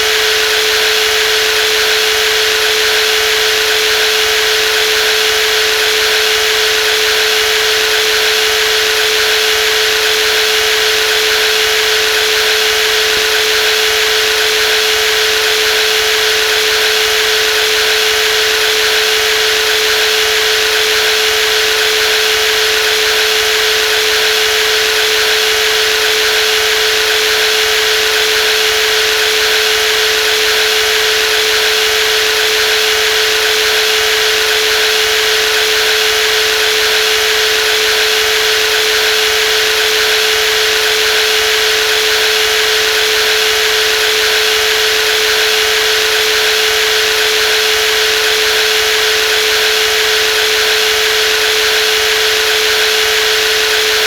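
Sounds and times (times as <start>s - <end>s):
jigsaw motor whining: 0.0s - 54.0s.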